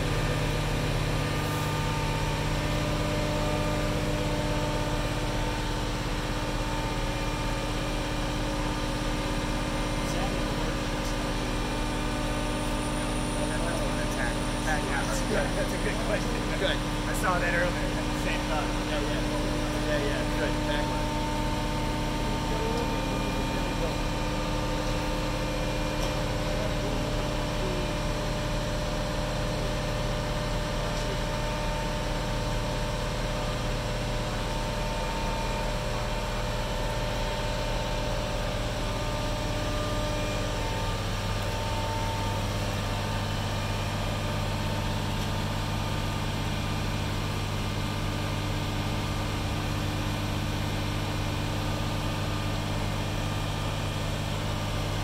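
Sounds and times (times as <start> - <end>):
crane engine droning: 0.0 - 55.0.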